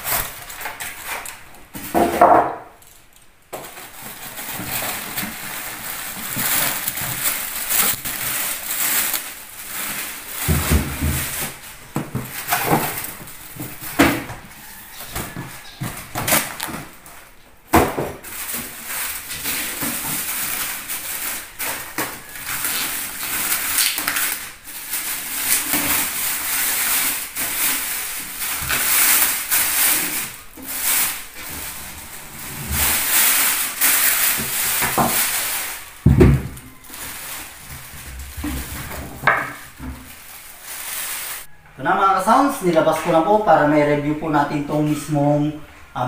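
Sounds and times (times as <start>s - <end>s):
plastic wrapping crinkling: 0.0s - 43.7s.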